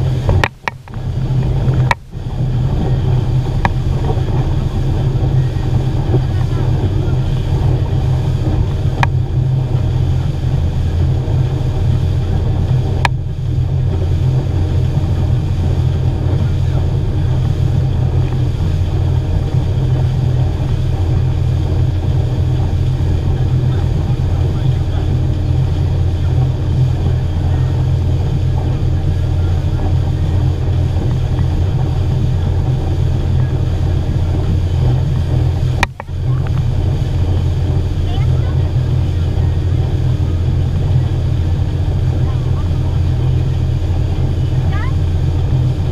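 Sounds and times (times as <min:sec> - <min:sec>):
outboard motor running: 0:00.0 - 0:45.9
water rushing in wake: 0:00.0 - 0:45.9.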